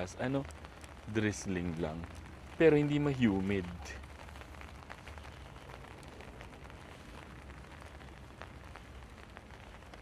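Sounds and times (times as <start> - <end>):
light rain hissing: 0.0 - 10.0
small rain ticks: 0.0 - 10.0.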